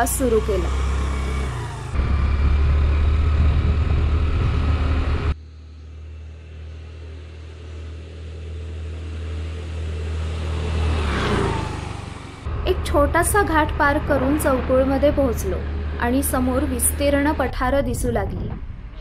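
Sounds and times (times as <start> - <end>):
scooter passing by: 0.0 - 5.4, 6.2 - 17.5
scooter engine hum: 0.0 - 19.0
wind and road noise: 0.0 - 19.0.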